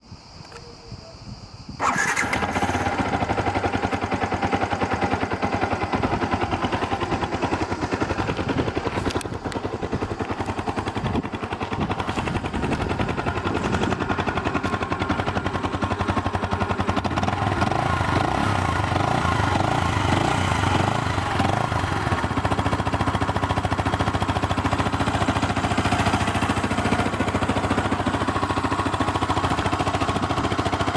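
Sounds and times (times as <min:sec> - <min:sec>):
motorcycle engine running: 0:01.7 - 0:30.9.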